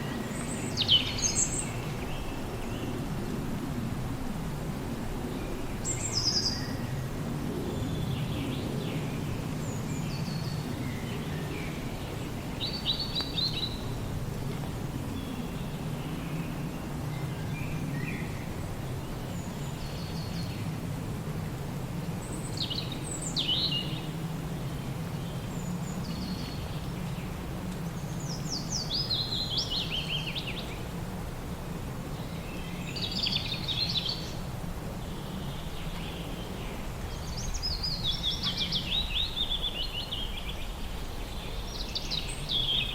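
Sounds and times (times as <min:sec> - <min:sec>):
songbirds chirping: 0:00.0 - 0:42.9.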